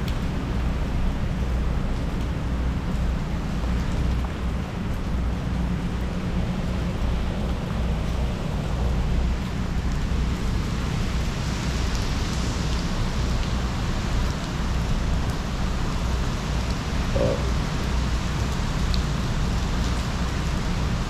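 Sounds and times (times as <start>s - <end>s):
heavy rain: 0.0s - 21.0s
low wind rumble: 0.0s - 21.0s.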